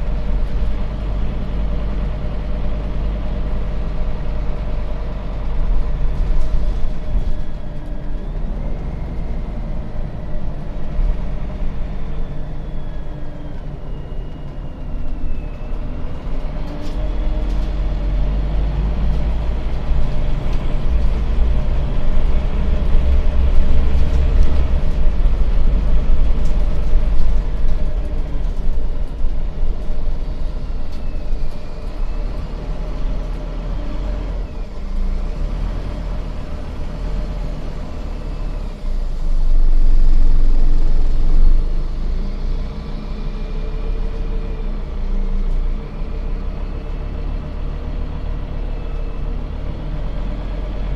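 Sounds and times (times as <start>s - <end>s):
bus engine under way: 0.0s - 50.9s.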